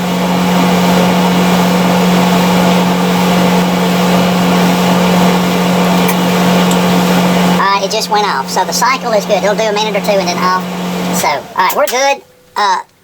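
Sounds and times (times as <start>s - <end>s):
clothes dryer humming: 0.0s - 13.0s.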